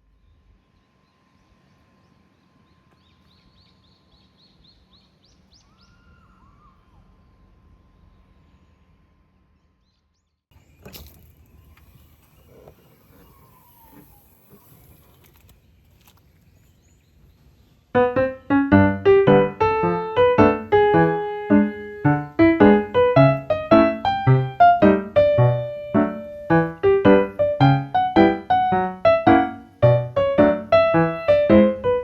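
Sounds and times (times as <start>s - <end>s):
bird chirping: 0.1s - 32.0s.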